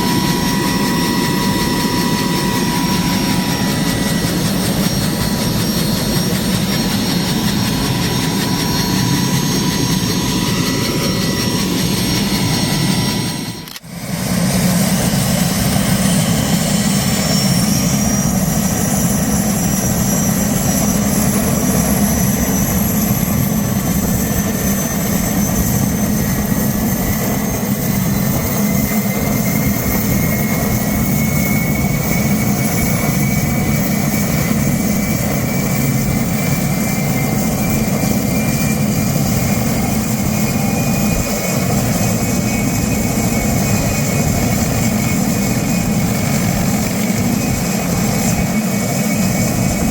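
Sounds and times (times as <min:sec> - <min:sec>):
helicopter rotor and engine: 0:00.0 - 0:49.9
turbine whine: 0:00.0 - 0:49.9.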